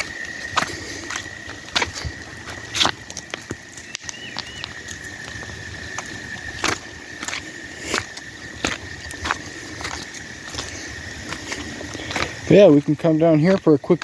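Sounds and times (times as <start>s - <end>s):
faint high whine: 0.0s - 14.0s
footsteps walking: 0.0s - 14.0s.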